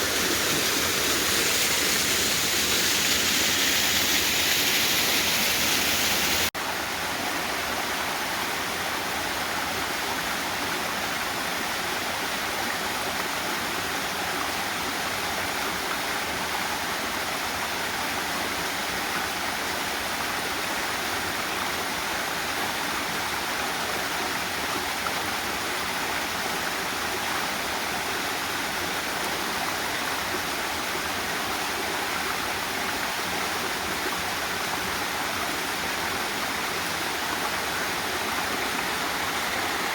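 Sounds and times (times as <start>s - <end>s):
water rushing in creek and waterfall: 0.0s - 39.9s.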